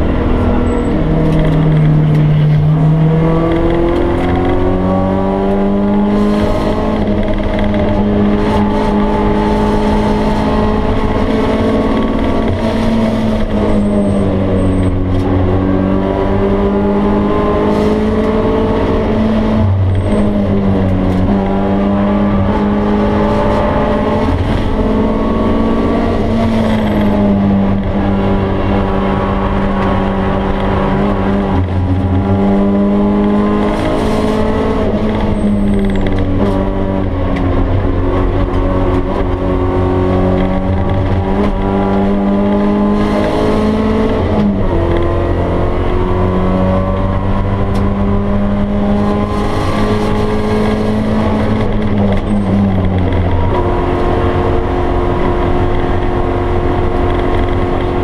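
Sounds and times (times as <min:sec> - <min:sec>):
car engine pulling hard: 0:00.0 - 0:58.0.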